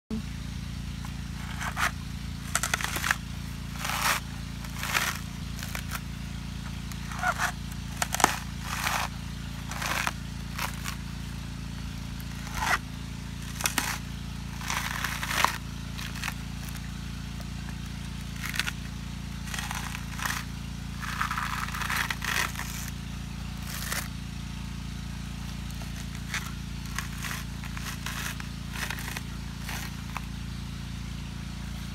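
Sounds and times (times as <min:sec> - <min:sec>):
coconut husk tearing: 0:00.9 - 0:30.7.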